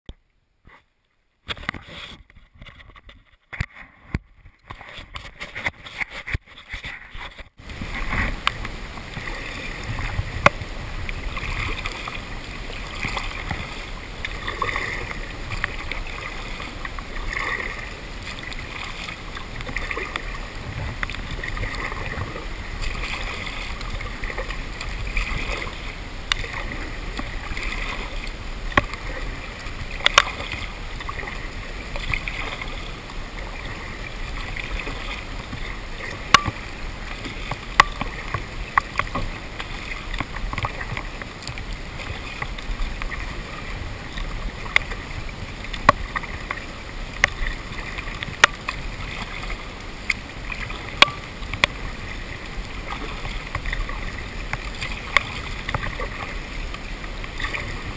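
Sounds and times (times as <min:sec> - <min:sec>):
paddle strokes swishing through water: 0:00.1 - 0:57.9.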